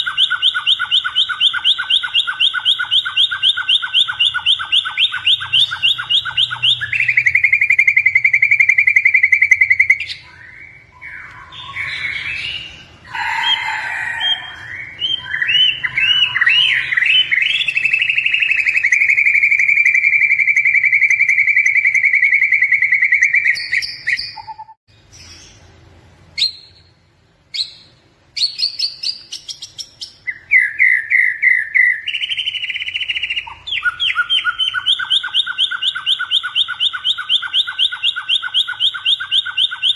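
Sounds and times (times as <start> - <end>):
bird singing trills: 0.0 - 25.7, 27.5 - 39.9.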